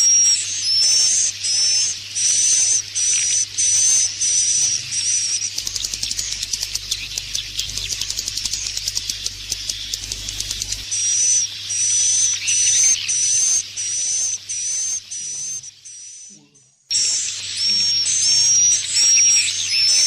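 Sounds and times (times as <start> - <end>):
swiftlet clicking twitter: 0.0 - 20.0.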